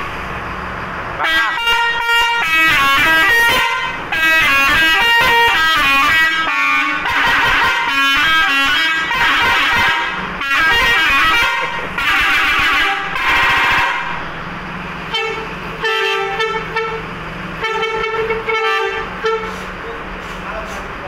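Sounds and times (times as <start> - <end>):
bus engine running: 0.0 - 21.0
bus air horn blasts: 1.2 - 14.2, 15.1 - 19.9.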